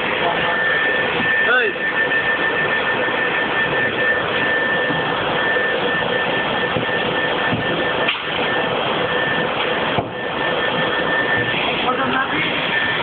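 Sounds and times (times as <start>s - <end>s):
factory machinery rushing noise: 0.0s - 13.0s
high machine whine: 0.0s - 13.0s
low machine hum: 0.0s - 13.0s.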